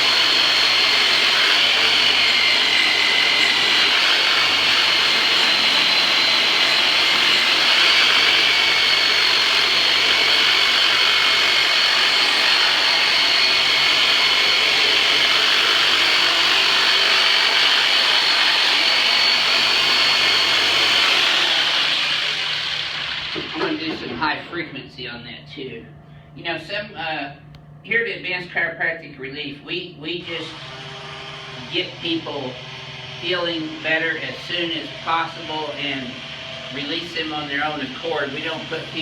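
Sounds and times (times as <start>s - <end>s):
massager motor buzzing: 0.0s - 24.1s, 30.2s - 39.0s
high steady whining tones: 0.0s - 39.0s.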